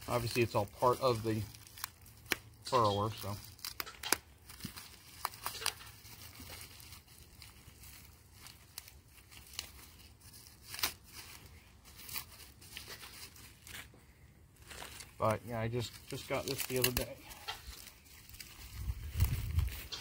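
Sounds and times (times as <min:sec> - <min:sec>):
plastic packaging crinkling: 0:00.0 - 0:13.9, 0:14.6 - 0:20.0.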